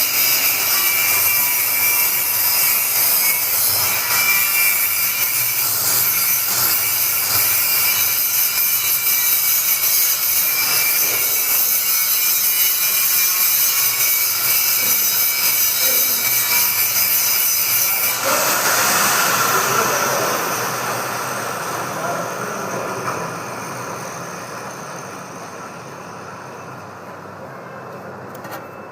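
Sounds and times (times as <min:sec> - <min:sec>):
blender motor whirring: 0:00.0 - 0:25.7.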